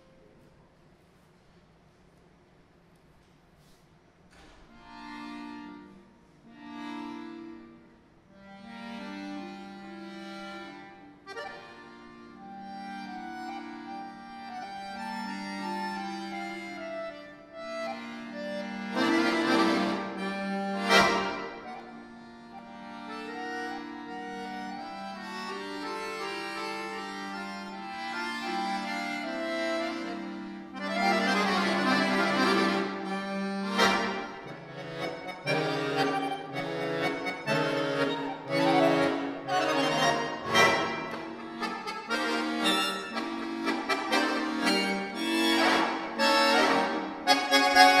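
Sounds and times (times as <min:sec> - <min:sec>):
solo accordion playing chords: 0:04.4 - 0:48.0.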